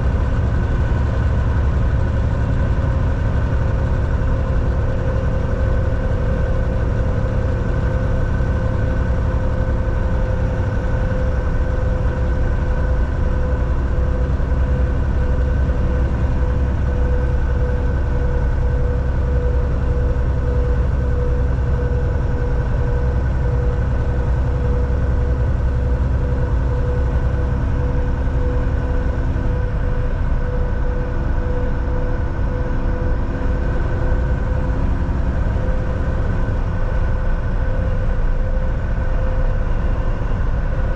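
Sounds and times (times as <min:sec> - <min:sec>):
diesel engine drone: 0:00.0 - 0:40.9
steady hum: 0:00.0 - 0:40.9.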